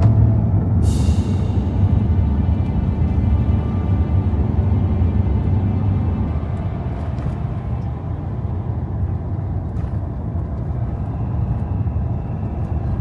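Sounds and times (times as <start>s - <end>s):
vehicle engine and tyre rumble: 0.0s - 13.0s.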